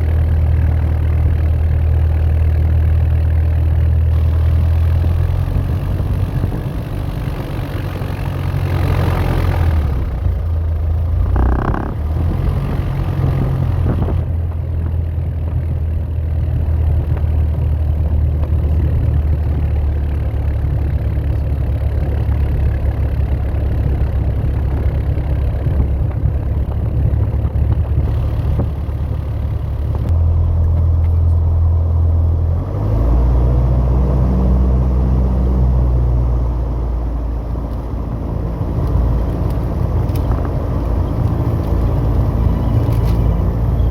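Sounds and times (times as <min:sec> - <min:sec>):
propeller aircraft engine droning: 0:00.0 - 0:43.9.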